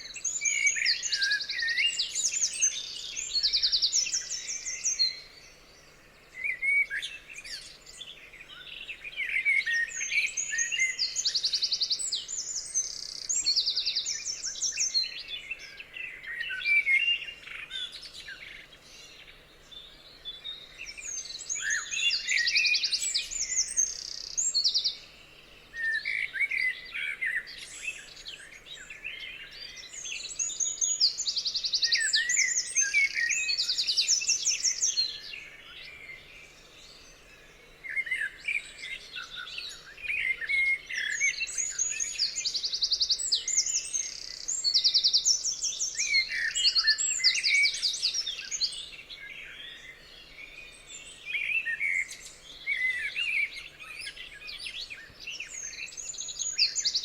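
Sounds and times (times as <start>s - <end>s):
birds singing and chirping: 0.0s - 57.0s.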